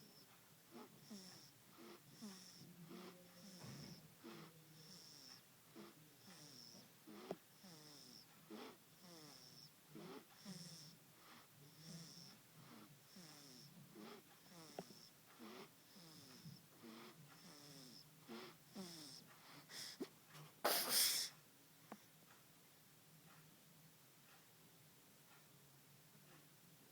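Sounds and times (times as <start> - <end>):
baby snoring softly: 0.0 - 22.2.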